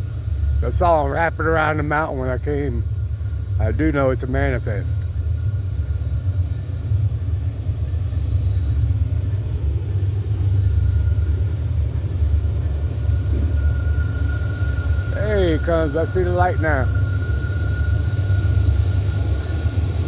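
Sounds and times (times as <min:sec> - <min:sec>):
diesel locomotive rumble: 0:00.0 - 0:20.0
faint high whine: 0:00.0 - 0:20.0.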